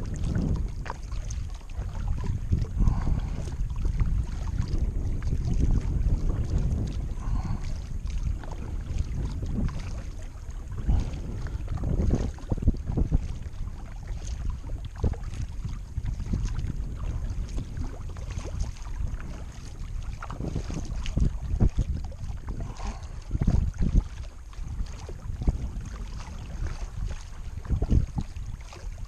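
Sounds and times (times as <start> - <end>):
paddle splashing in water: 0.0 - 29.0
wind on microphone: 0.0 - 29.0.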